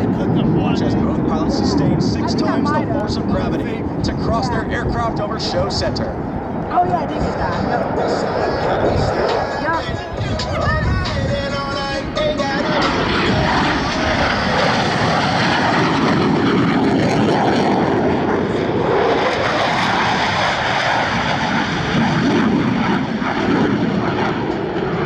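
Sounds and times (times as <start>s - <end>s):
jet noise: 0.0s - 25.0s.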